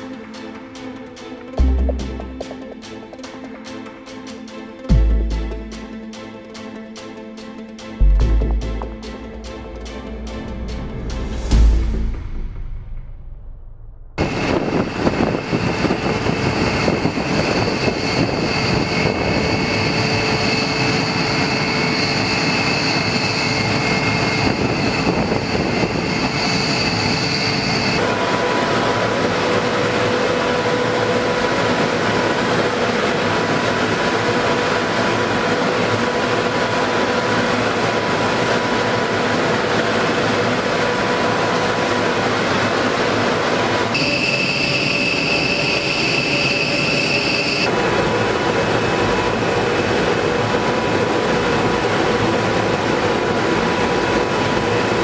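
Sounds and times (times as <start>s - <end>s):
broad machinery rumble: 0.0s - 13.1s, 14.1s - 55.0s
machinery whine: 0.0s - 55.0s.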